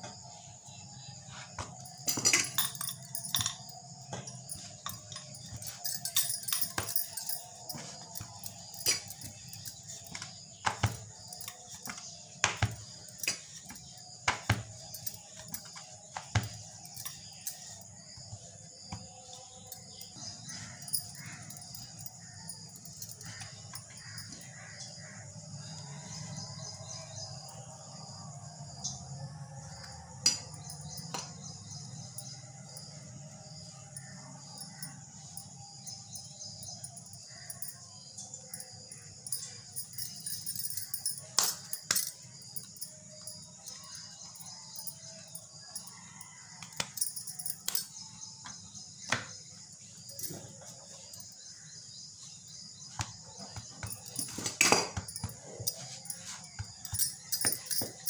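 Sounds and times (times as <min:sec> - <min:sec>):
bangles jingling: 0:00.2 - 0:28.6, 0:29.3 - 0:58.0.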